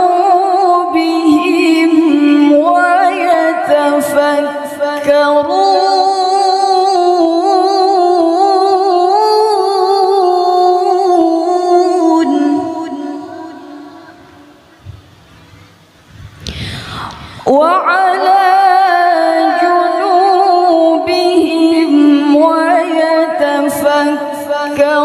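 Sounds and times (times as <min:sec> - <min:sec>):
woman chanting melodically: 0:00.0 - 0:14.6, 0:16.7 - 0:25.0.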